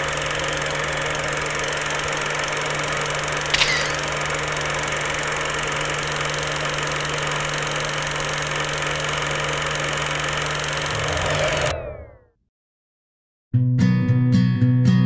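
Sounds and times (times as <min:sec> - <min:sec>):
film projector whirring: 0:00.0 - 0:12.1.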